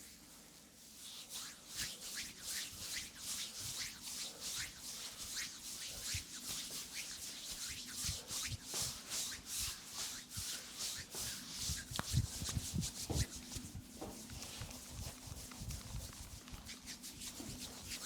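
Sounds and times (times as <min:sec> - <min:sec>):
hands stroking bare skin: 0:00.0 - 0:18.0.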